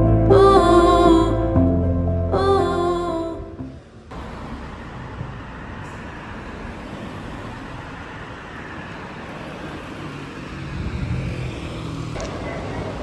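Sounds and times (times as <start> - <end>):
road traffic: 2.6 - 13.0.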